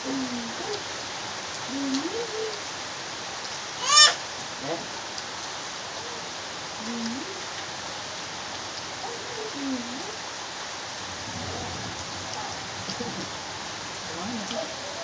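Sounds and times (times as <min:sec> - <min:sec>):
heavy rain on foliage: 0:00.0 - 0:15.0.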